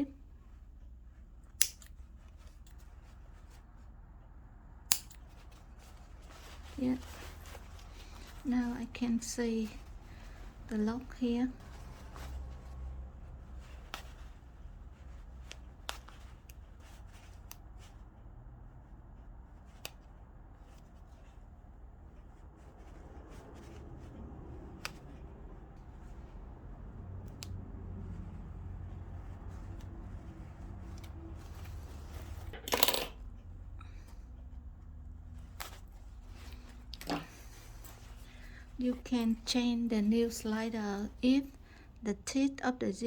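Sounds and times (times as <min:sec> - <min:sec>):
cloth rustling: 0:00.0 - 0:43.0.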